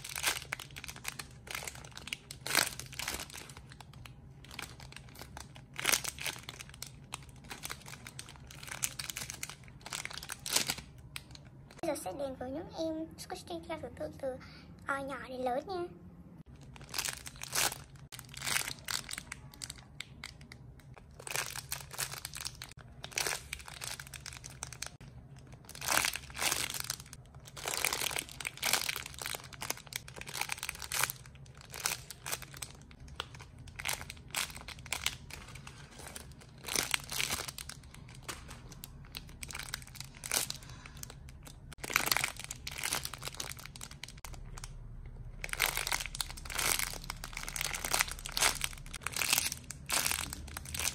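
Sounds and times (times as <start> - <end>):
crinkling and rustling wrapping: 0.0 - 11.8, 16.4 - 44.8, 45.4 - 50.9.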